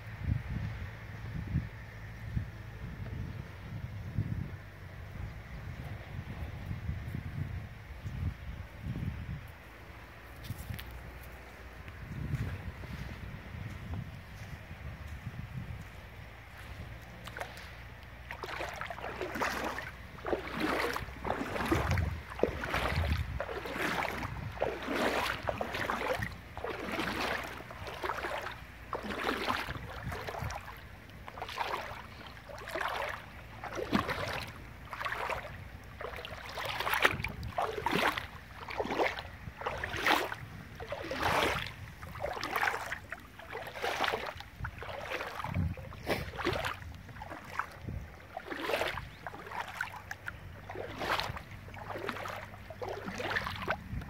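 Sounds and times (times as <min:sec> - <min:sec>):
footsteps wading through water: 0:09.5 - 0:54.0.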